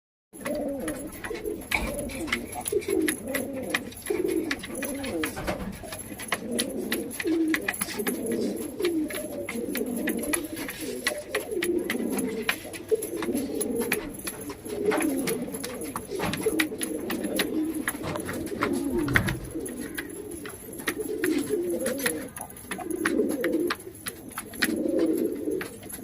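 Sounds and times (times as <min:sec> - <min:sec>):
pigeons cooing: 0:00.4 - 0:26.0
sharp little clicks and taps: 0:00.4 - 0:26.0.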